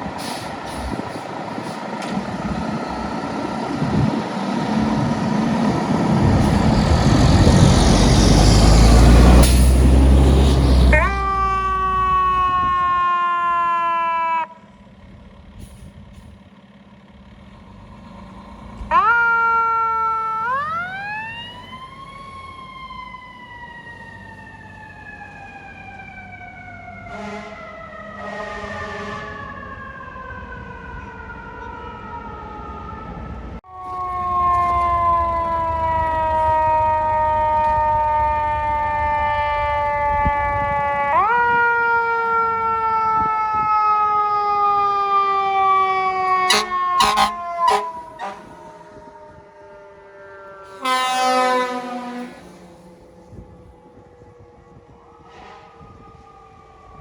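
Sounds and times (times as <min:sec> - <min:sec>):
truck engine rumble: 0:00.0 - 0:27.0, 0:33.4 - 0:54.8
fire truck sirens wailing: 0:00.0 - 0:57.0.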